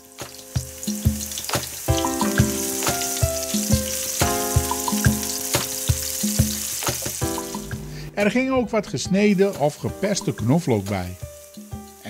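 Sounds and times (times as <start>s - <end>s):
onion sizzling in oil: 0.0s - 8.0s, 9.2s - 12.0s
background music with steady beat: 0.0s - 12.0s.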